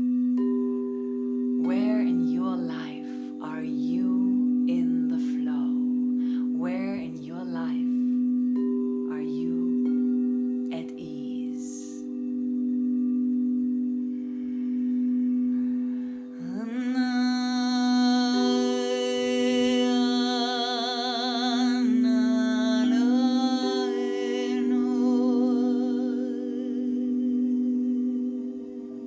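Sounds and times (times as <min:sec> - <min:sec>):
singing bowls ringing: 0:00.0 - 0:29.0
person humming with vibrato: 0:01.6 - 0:12.8, 0:13.9 - 0:29.0.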